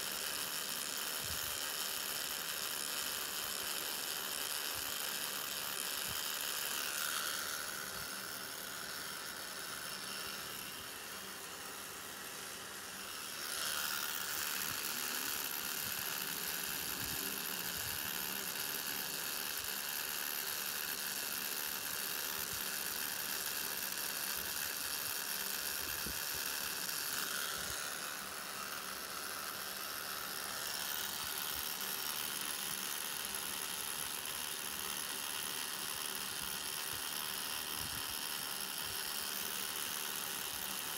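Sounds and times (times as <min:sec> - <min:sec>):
tattoo machine whirring: 0:00.0 - 0:40.9.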